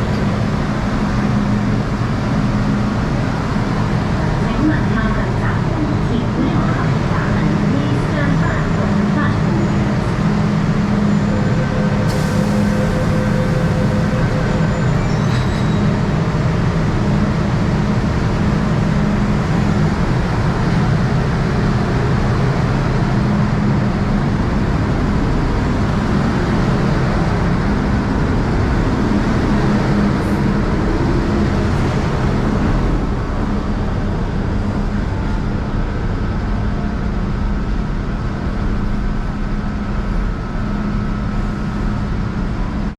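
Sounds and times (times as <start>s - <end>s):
electric train hum and rumble: 0.0s - 42.9s.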